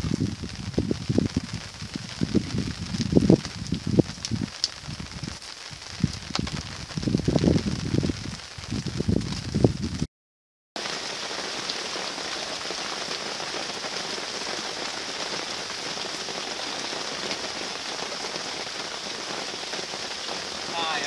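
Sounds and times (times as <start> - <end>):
steady rain falling: 0.0 - 10.1, 10.8 - 21.0.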